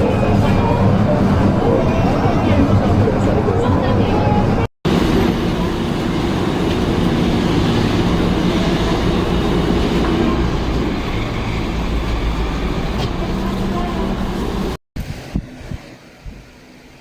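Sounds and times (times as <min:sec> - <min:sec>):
moving vehicle rumble: 0:00.0 - 0:16.8.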